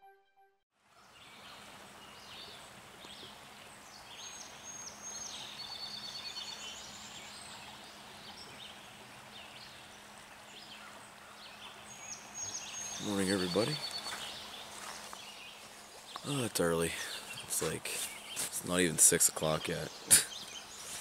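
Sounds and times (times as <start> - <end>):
faint steady hiss: 0.8 - 21.0
songbirds singing: 1.0 - 21.0.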